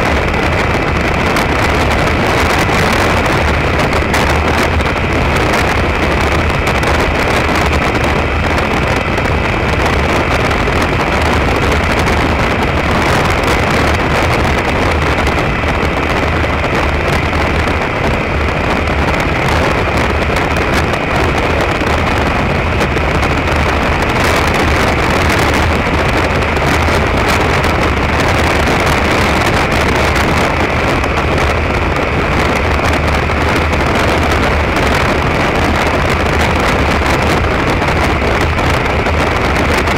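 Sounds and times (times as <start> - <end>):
motorcycle engine hum: 0.0 - 39.9
wind rushing over microphone: 0.0 - 39.9.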